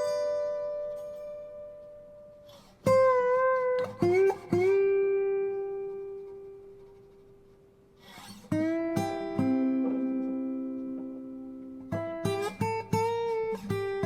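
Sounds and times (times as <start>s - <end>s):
plucked guitar notes: 0.0s - 14.0s.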